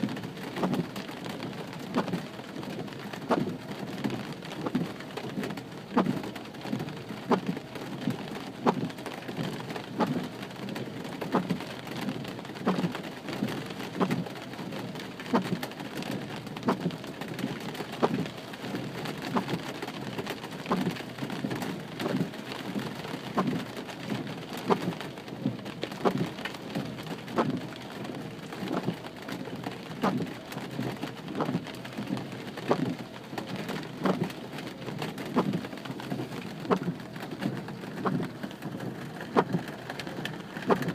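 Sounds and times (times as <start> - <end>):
rain falling on a car: 0.0 - 40.9
windshield wipers sweeping: 0.0 - 40.9.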